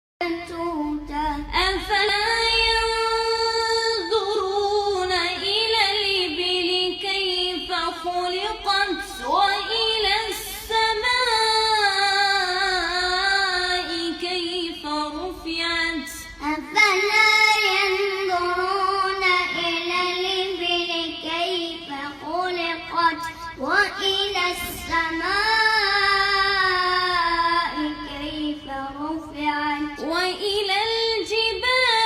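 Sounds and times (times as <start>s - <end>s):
child chanting melodically: 0.2s - 32.0s.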